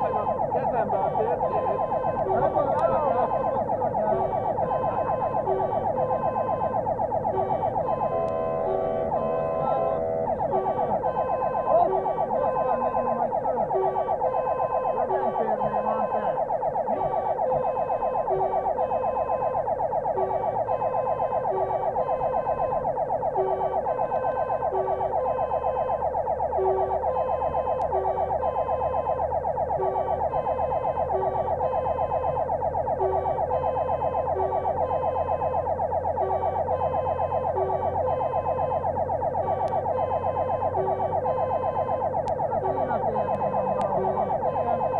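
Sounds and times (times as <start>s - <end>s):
fire engine siren warbling: 0.0s - 44.9s.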